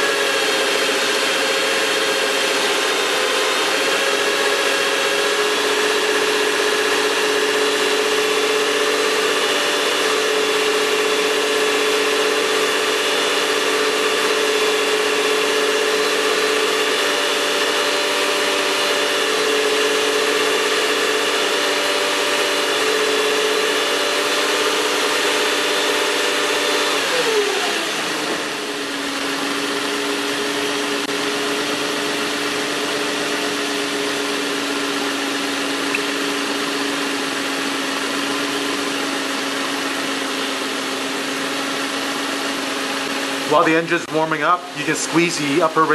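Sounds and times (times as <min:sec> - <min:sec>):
car engine revving and idling: 0:00.0 - 0:45.9.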